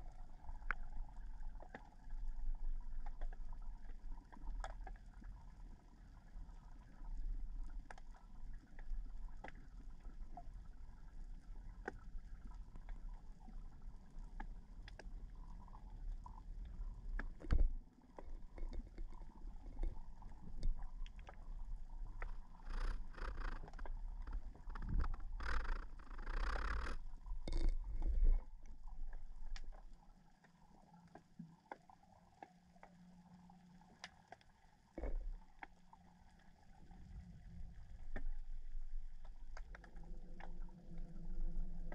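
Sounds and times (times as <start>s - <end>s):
muffled underwater rumble: 0.0s - 31.6s, 34.8s - 41.9s
rushing water and bubbles: 0.0s - 41.9s.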